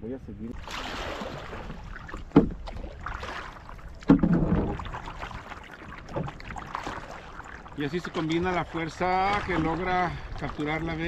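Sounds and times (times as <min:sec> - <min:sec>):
paddle splashing in water: 0:00.6 - 0:11.0
water washing: 0:00.6 - 0:11.0.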